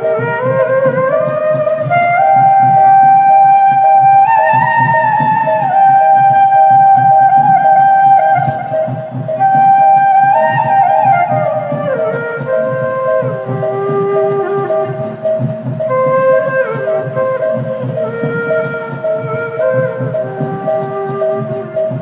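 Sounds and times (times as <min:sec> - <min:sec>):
flute-like melody: 0:00.0 - 0:22.0
rapidly pulsing steady tone: 0:00.0 - 0:22.0.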